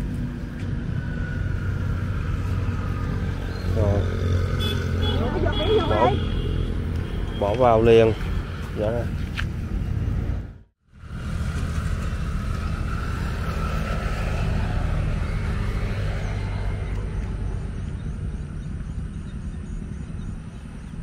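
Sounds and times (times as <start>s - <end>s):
traffic engine hum: 0.0s - 21.0s.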